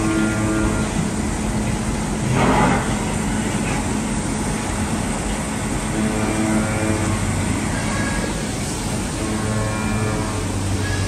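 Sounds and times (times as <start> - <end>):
lathe machine hum: 0.0 - 11.0.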